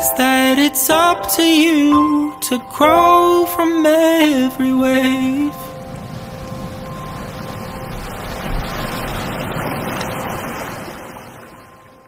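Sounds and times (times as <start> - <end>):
ocean waves: 0.0 - 12.0.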